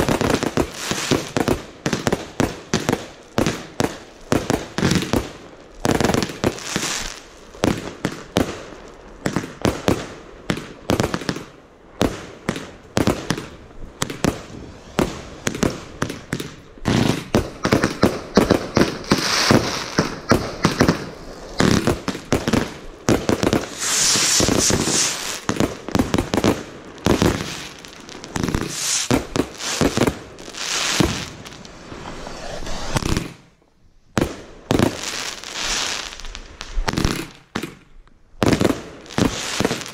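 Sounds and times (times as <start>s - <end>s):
fireworks launching and bursting: 0.0s - 39.9s.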